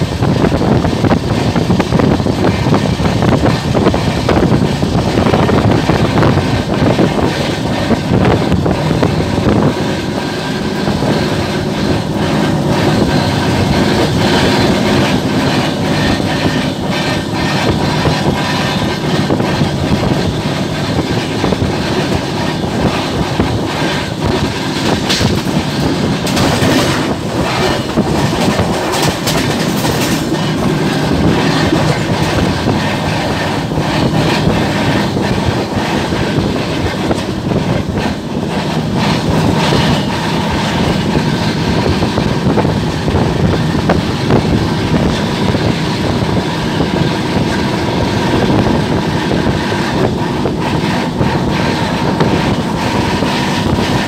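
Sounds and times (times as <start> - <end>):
train rolling noise: 0.0 - 54.0
wheels clicking over rail joints: 0.0 - 54.0.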